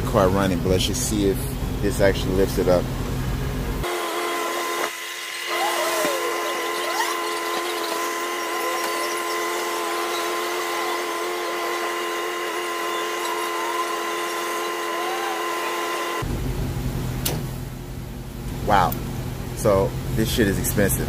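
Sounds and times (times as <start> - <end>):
gas pump whine: 0.0 - 21.0.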